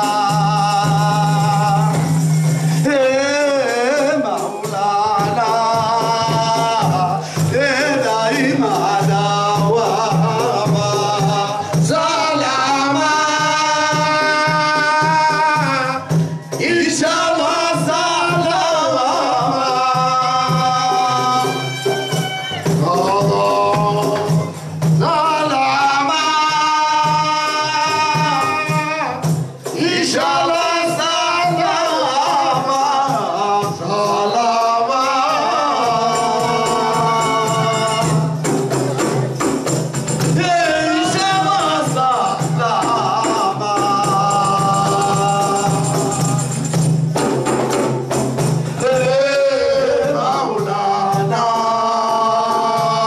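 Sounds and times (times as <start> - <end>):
person singing: 0.0 - 46.9, 48.6 - 53.0
hand drums beat: 0.0 - 53.0
tambourine jingles: 0.0 - 53.0.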